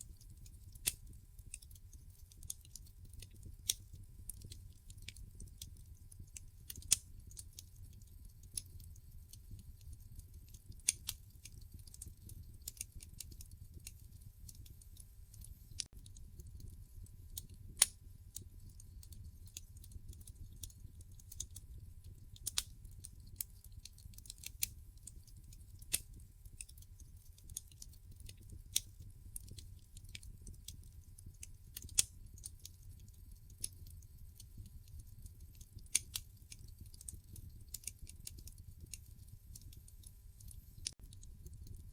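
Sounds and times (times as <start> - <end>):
low rumble of flames: 0.0 - 41.9
wood fire crackling and popping: 0.0 - 41.9.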